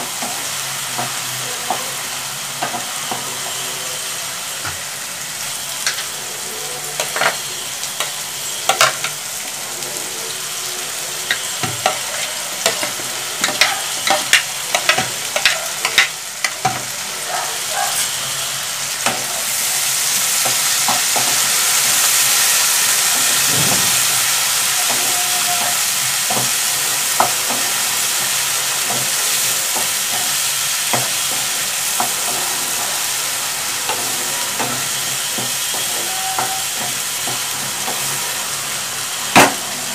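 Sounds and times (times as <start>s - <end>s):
vegetables sizzling in hot oil: 0.0s - 39.9s.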